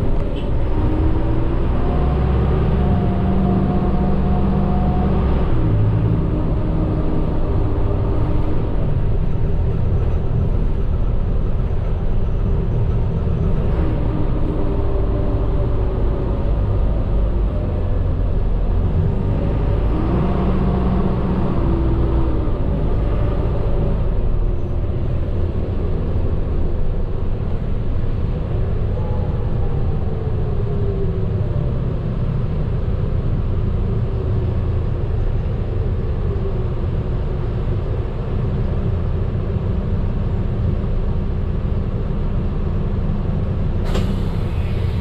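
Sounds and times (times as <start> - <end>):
bus diesel engine running: 0.0 - 45.0
road noise rumbling: 0.0 - 45.0.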